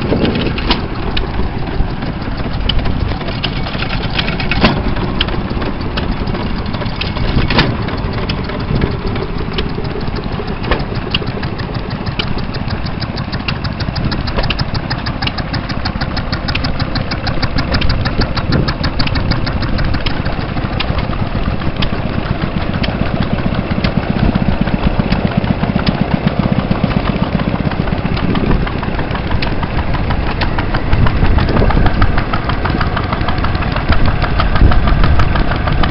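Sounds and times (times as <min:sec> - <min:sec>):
engine knocks: 0:00.0 - 0:35.9
stationary engines clattering: 0:00.0 - 0:35.9.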